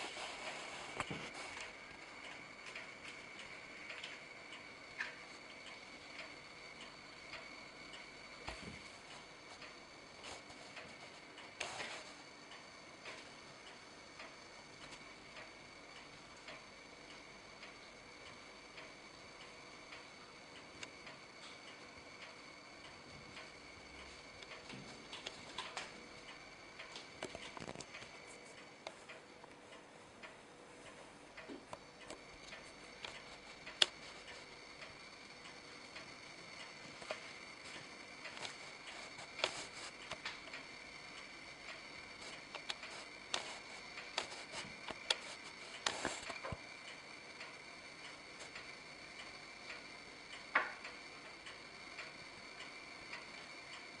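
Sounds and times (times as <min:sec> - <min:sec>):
faint ticking: 0:00.9 - 0:54.0.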